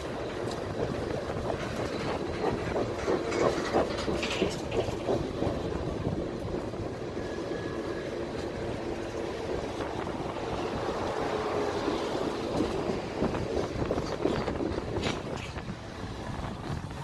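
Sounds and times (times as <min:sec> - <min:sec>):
steel train wheels rumbling on rails: 0:00.0 - 0:17.0.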